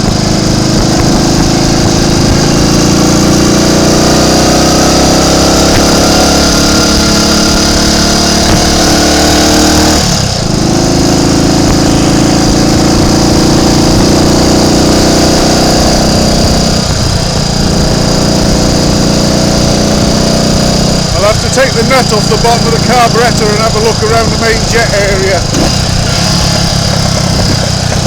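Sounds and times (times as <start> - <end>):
motorcycle engine pulling: 0.0 - 28.0.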